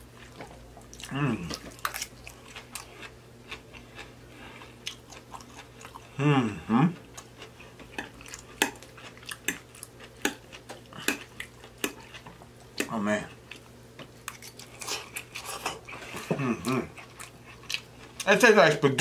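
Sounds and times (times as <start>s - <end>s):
chewing soft food: 0.0s - 18.8s
closed-mouth hum: 0.0s - 19.0s.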